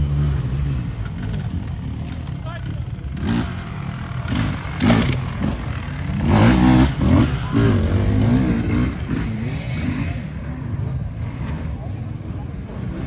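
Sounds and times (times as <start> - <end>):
off-road racing engines revving: 0.0 - 13.0.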